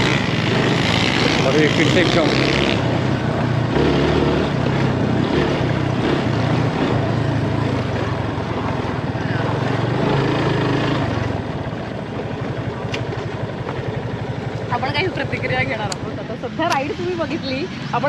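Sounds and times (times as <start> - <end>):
motorcycle engine under throttle: 0.0 - 16.9.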